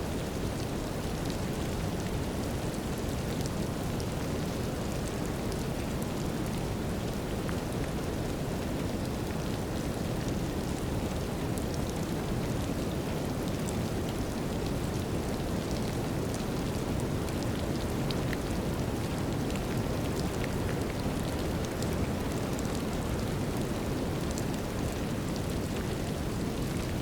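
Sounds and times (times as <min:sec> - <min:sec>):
light rain: 0:00.0 - 0:27.0.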